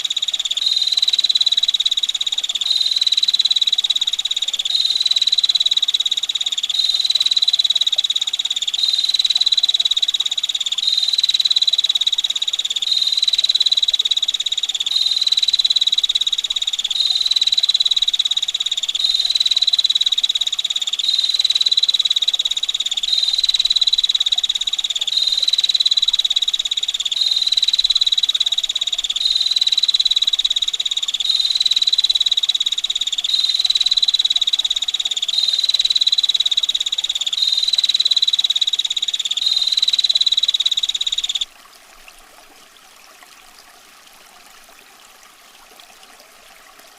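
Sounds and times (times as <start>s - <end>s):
faint running water: 0.0s - 46.9s.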